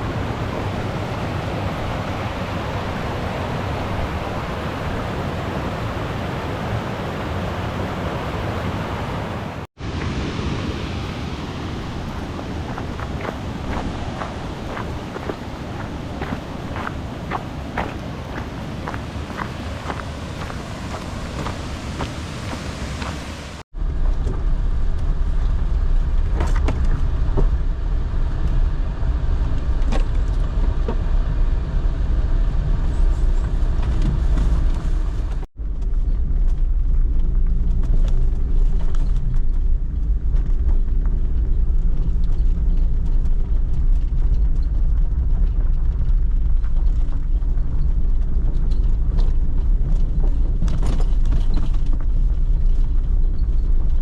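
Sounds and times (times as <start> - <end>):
vehicle low rumble: 0.0 - 54.0.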